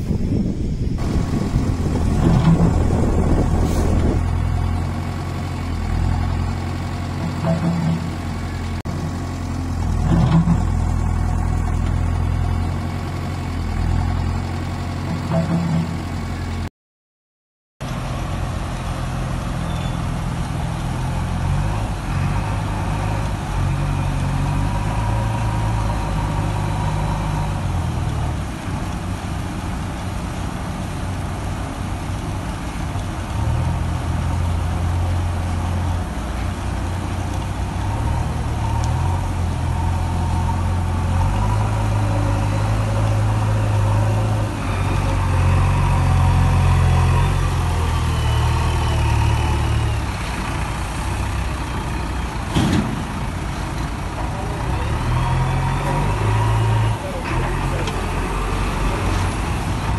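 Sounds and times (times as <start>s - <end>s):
diesel engine rumbling: 0.0s - 16.7s, 17.8s - 59.9s.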